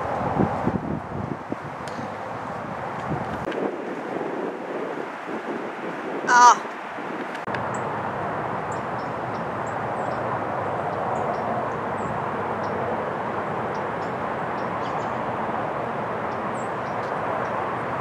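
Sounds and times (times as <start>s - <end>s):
distant roar of background noise: 0.0s - 18.0s.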